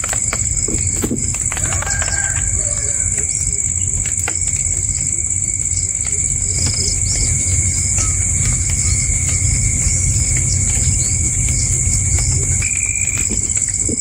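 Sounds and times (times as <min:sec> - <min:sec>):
low rumble: 0:02.3 - 0:14.0.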